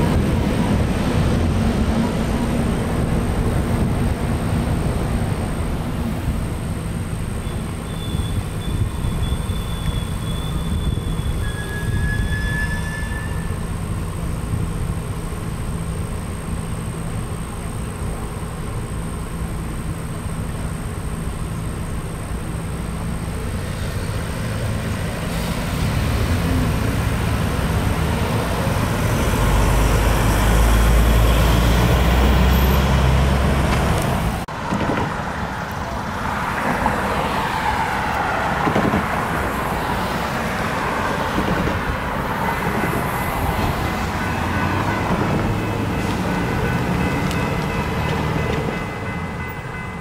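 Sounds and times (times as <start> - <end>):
passing traffic: 0.0 - 50.0.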